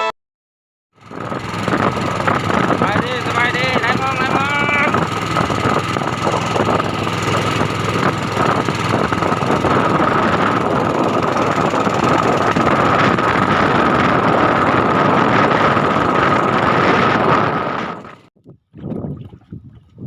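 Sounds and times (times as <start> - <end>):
constant high whine: 1.0 - 18.3
boat engine running: 1.0 - 19.9.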